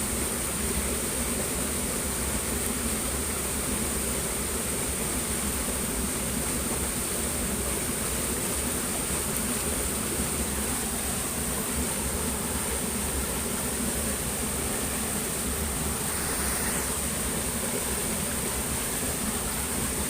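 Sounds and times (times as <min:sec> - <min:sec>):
rushing hiss: 0:00.0 - 0:20.0.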